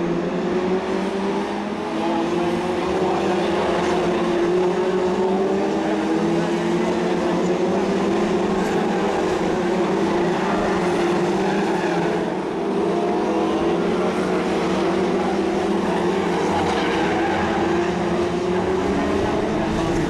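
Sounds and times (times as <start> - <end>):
racing car engines droning: 0.0 - 20.0.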